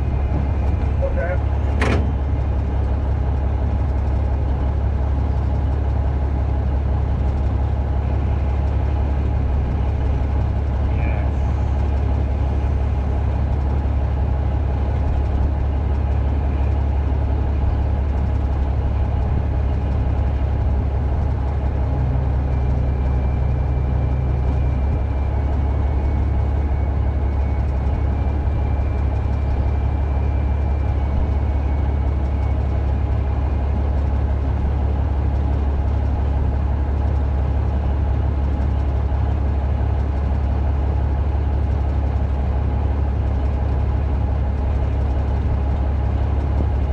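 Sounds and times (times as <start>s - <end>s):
diesel engine running steadily: 0.0s - 46.9s.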